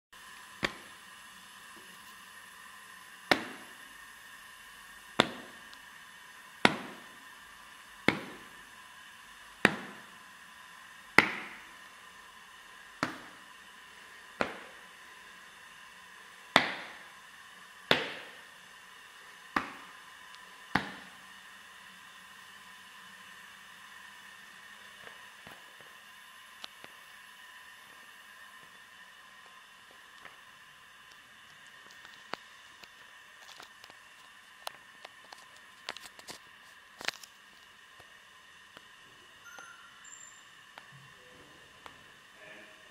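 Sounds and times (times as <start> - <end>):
faint electrical hum: 0.2 - 42.9.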